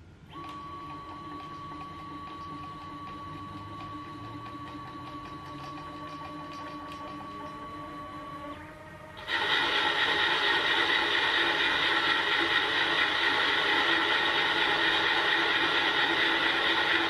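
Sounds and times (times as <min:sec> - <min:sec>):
lathe motor whine: 0:00.0 - 0:17.0.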